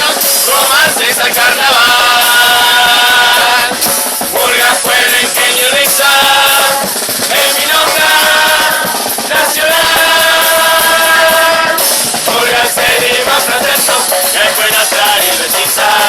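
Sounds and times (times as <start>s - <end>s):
chorus singing in unison: 0.0s - 16.0s
drums and cymbals: 0.0s - 16.0s.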